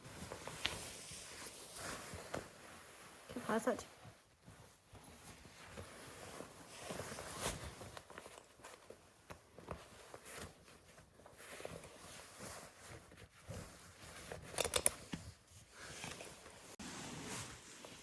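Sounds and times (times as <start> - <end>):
rustling of horse blanket straps: 0.0 - 14.6, 15.4 - 18.0.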